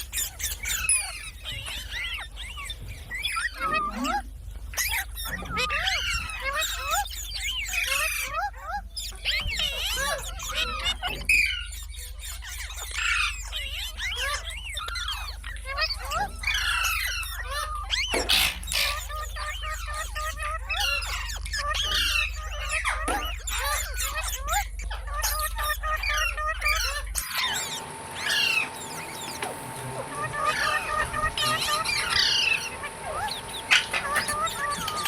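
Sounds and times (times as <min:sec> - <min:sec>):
low background hum: 0:00.0 - 0:35.0
parrots chattering and squawking: 0:00.0 - 0:35.0.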